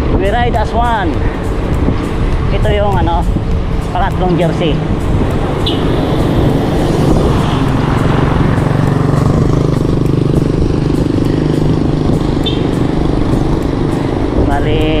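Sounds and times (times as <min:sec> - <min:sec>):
vehicle engine running: 0:00.8 - 0:15.0.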